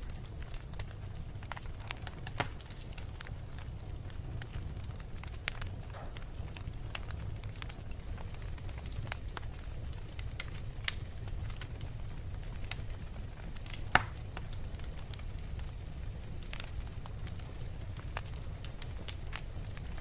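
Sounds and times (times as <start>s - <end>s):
fire rumbling in a fireplace: 0.0s - 20.0s
wood crackling and popping: 0.0s - 20.0s.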